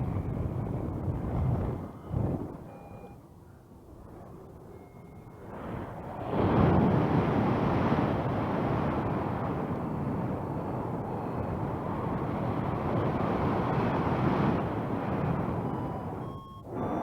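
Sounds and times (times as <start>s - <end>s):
wind rushing over microphone: 0.0s - 3.1s, 5.3s - 17.0s.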